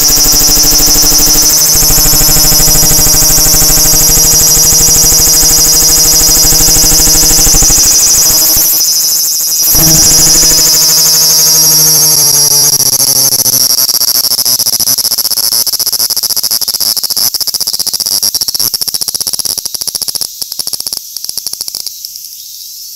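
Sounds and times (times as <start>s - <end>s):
cicada buzzing: 0.0s - 22.9s.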